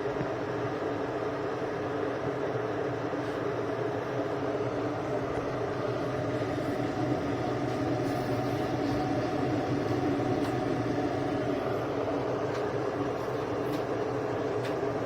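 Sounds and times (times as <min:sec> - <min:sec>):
electric kettle rumbling: 0:00.0 - 0:15.0.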